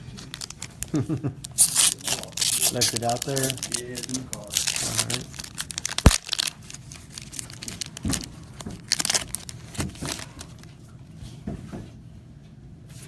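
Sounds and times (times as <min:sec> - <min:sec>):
foil wrappers crinkling and tearing: 0:00.0 - 0:10.8.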